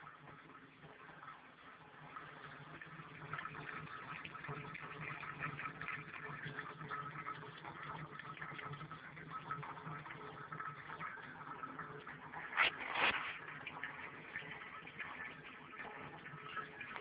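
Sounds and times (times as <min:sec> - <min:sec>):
water dripping into cans: 0:00.0 - 0:17.0.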